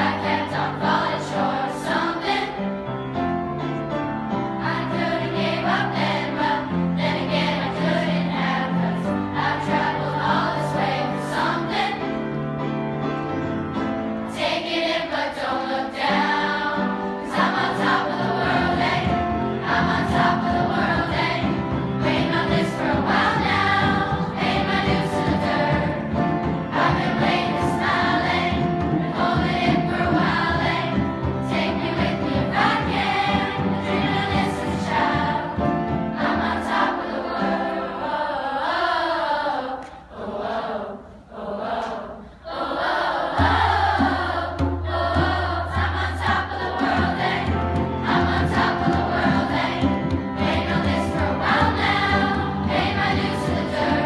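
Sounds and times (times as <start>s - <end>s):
piano accompaniment: 0.0s - 39.1s, 42.8s - 54.0s
children's choir singing: 0.0s - 54.0s.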